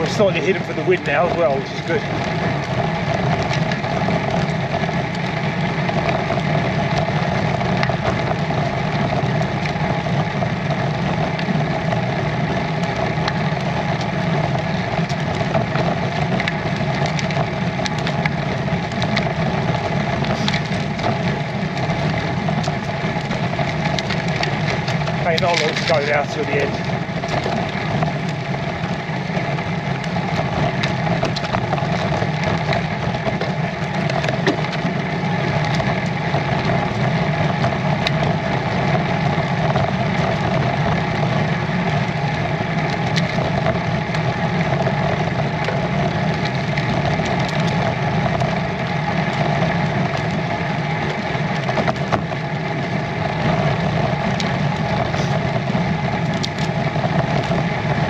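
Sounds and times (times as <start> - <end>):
bike tyre rumble: 0.0 - 58.0.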